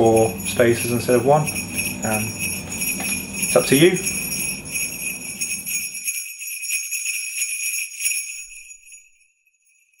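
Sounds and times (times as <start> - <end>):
jingle bells shaken: 0.0 - 10.0.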